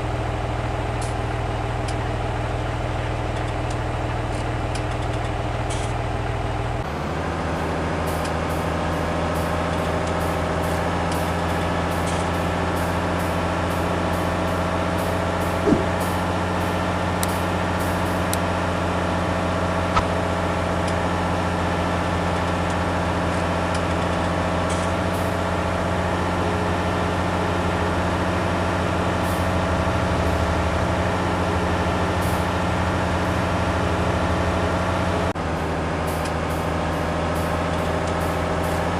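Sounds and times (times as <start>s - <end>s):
heavy vehicle engine running: 0.0s - 38.9s.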